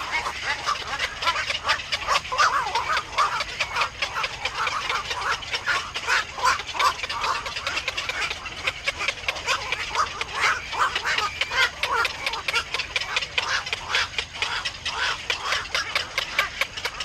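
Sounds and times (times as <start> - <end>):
herons calling harshly: 0.0 - 17.0.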